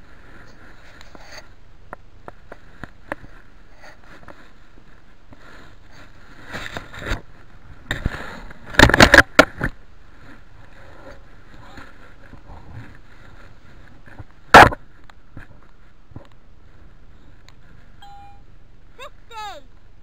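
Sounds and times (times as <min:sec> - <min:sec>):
rustling and scraping: 0:00.0 - 0:18.0
low steady background noise: 0:00.0 - 0:20.0.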